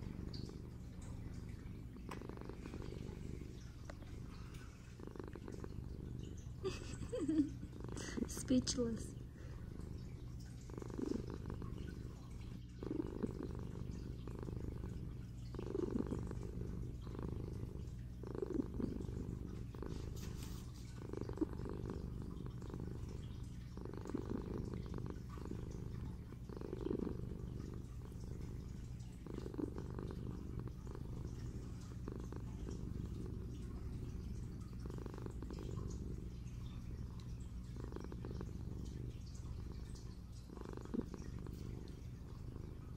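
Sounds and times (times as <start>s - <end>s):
kitten purring: 0.0s - 42.9s.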